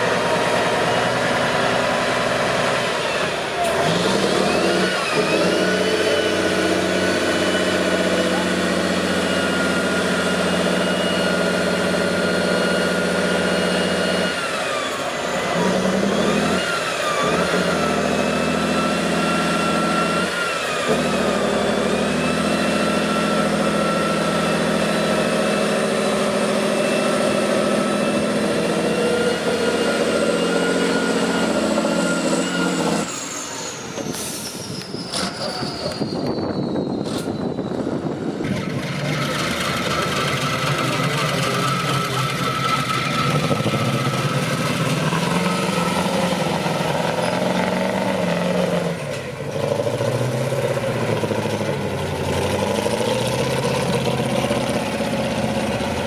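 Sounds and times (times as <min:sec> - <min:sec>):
truck engine revving under load: 0:00.0 - 0:56.0.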